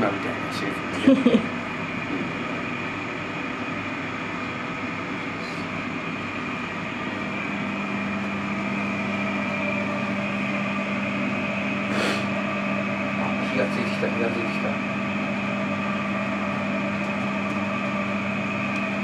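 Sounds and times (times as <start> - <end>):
deeper hum: 0.0 - 19.0
extractor fan humming: 0.0 - 19.0.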